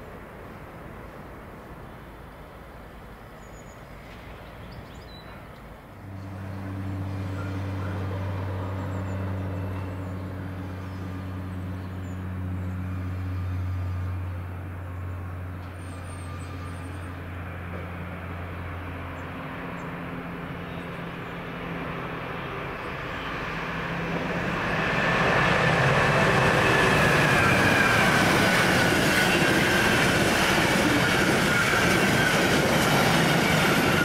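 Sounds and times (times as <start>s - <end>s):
diesel locomotive engine drone: 0.0s - 34.0s.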